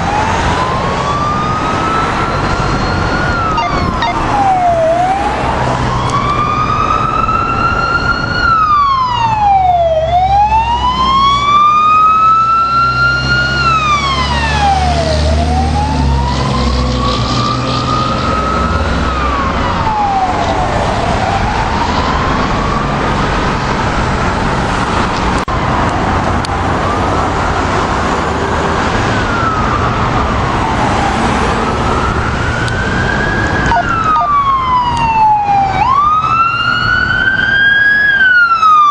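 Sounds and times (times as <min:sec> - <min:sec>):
emergency siren wailing: 0:00.0 - 0:38.9
heavy truck engine rumbling: 0:00.0 - 0:38.9.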